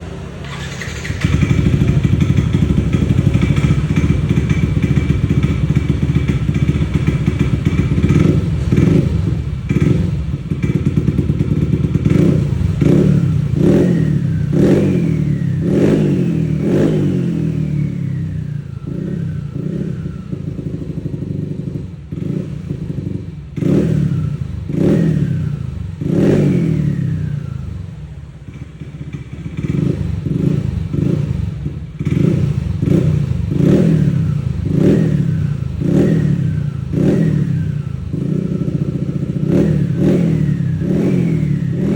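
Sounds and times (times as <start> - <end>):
scooter engine revving: 0.0 - 41.9.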